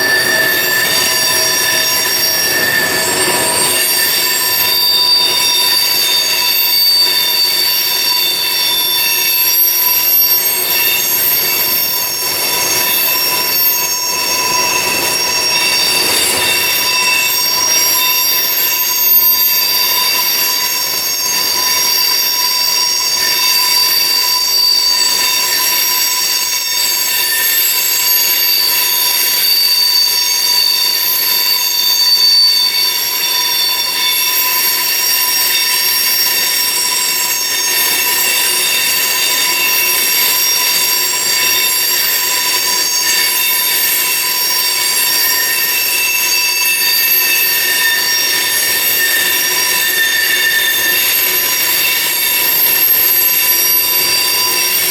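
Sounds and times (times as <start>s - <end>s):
train wheels squealing: 0.0s - 54.9s.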